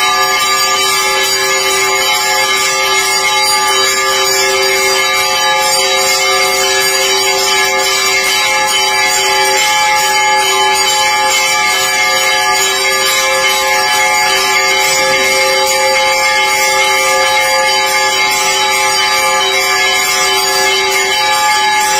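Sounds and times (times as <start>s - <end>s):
temple bells ringing: 0.0s - 21.9s.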